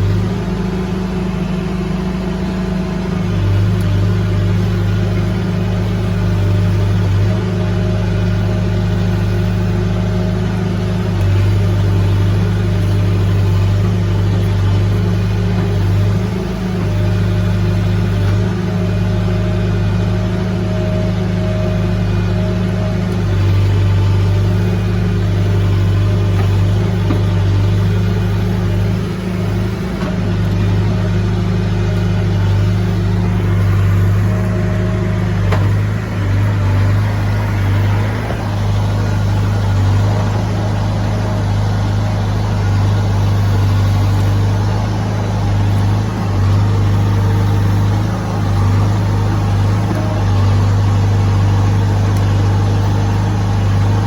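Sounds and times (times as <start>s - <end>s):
diesel engine deep drone: 0.0s - 54.0s.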